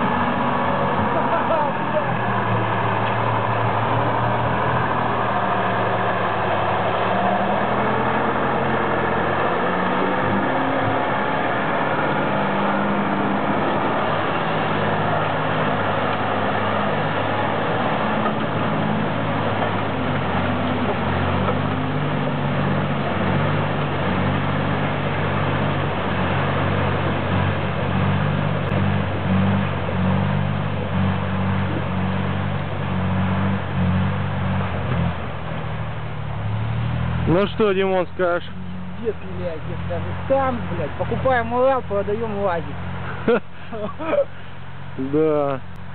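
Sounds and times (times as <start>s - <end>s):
truck engine under load: 0.0s - 45.9s.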